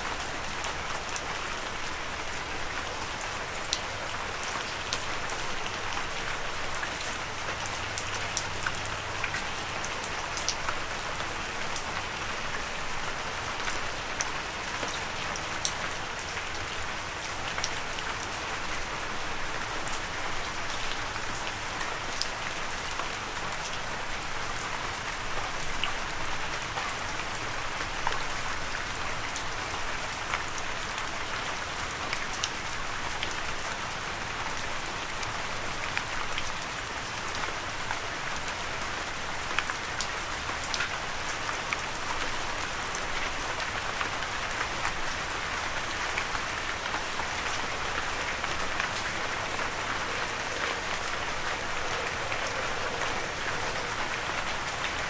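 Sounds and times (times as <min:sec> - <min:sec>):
raindrops ticking on a surface: 0:00.0 - 0:55.0
steady rain falling: 0:00.0 - 0:55.0.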